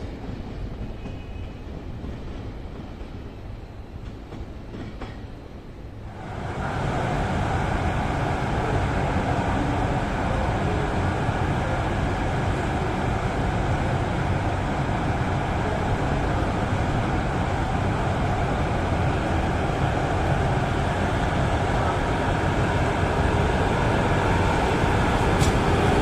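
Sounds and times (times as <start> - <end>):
train rumbling on track: 0.0 - 26.0.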